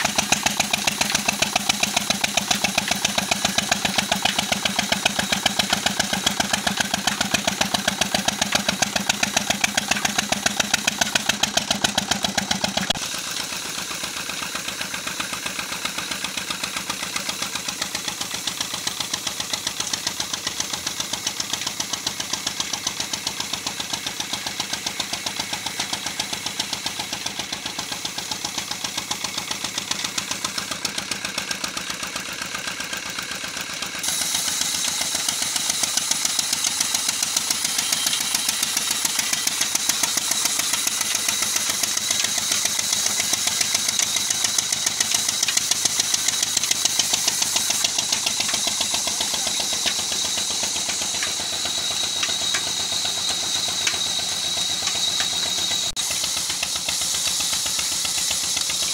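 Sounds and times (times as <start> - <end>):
stationary diesel engine knocking: 0.0 - 58.9.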